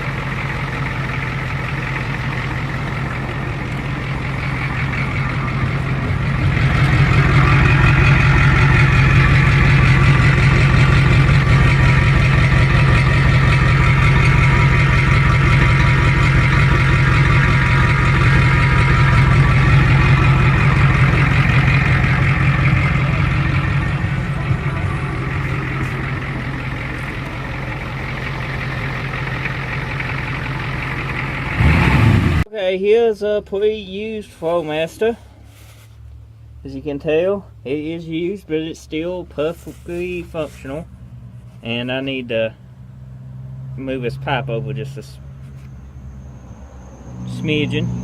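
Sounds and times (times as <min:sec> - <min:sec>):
diesel engine exhaust rumble: 0:00.0 - 0:48.0.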